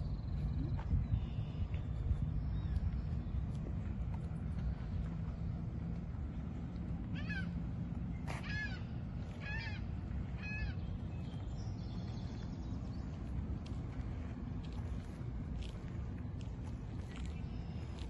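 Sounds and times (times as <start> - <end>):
car engine running low: 0.0 - 18.0.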